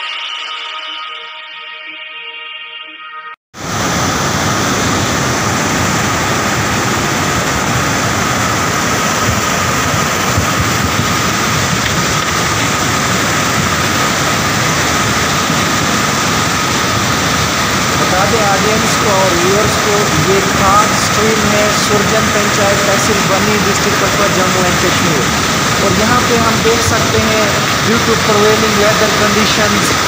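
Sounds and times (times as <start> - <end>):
water rushing over boulders: 3.6 - 30.0.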